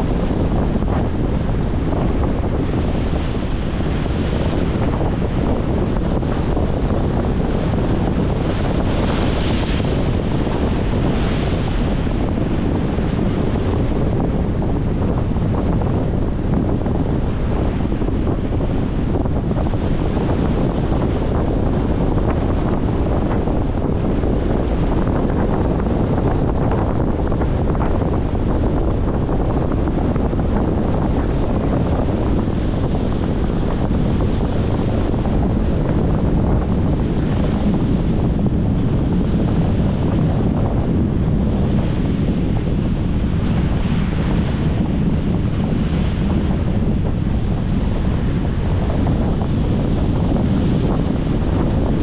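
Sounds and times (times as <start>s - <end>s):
strong wind buffeting microphone: 0.0s - 52.0s.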